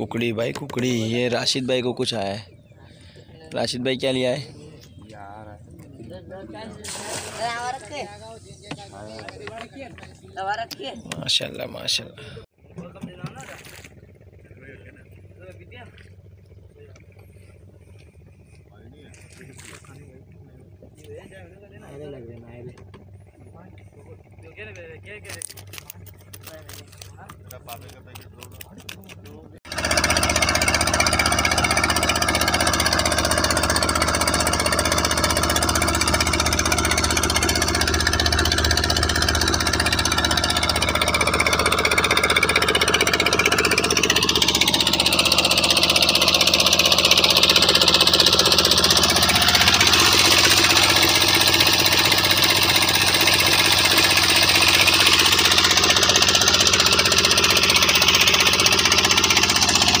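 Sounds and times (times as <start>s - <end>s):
boat engine running: 0.0s - 60.0s.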